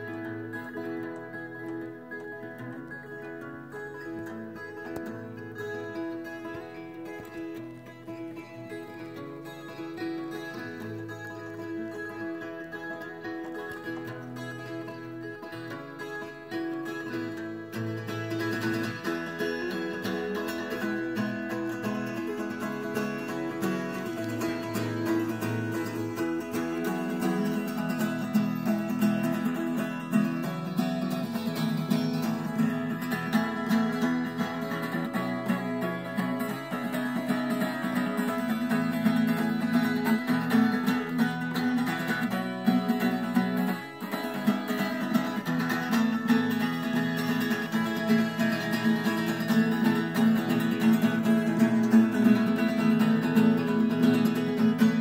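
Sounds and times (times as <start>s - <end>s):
acoustic guitar plucked: 0.0s - 55.0s.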